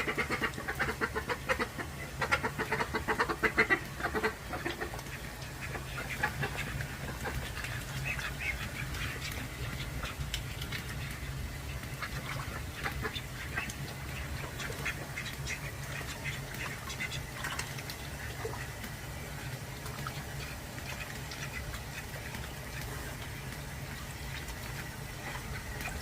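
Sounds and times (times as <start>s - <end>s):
ducks quacking: 0.0s - 26.0s
steady low hum: 0.0s - 26.0s.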